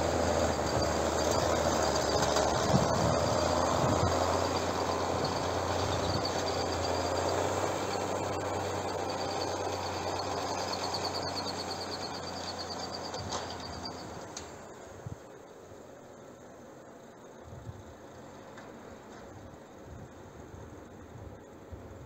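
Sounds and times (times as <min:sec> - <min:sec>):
tractor diesel engine running: 0:00.0 - 0:21.8.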